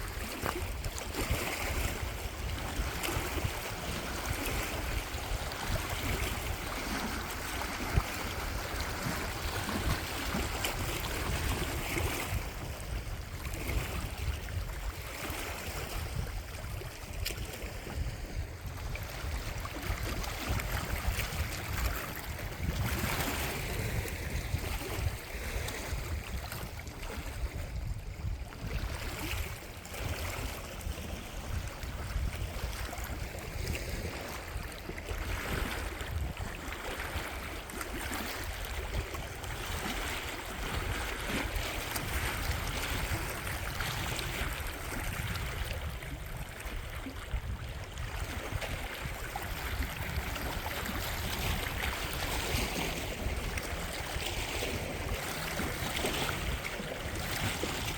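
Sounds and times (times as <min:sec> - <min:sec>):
rushing water: 0:00.0 - 0:57.9
wind rumbling on microphone: 0:00.0 - 0:57.9.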